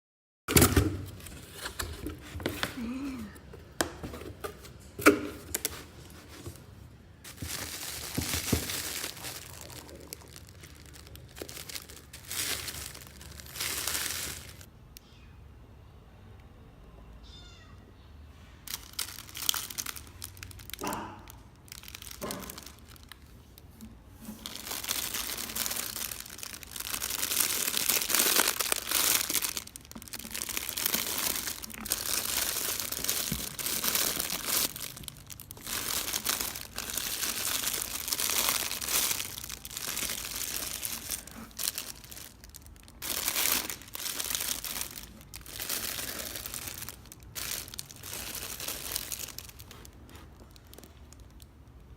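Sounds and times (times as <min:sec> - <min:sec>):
crinkling of toy packaging: 0:01.0 - 0:14.7, 0:18.6 - 0:51.9.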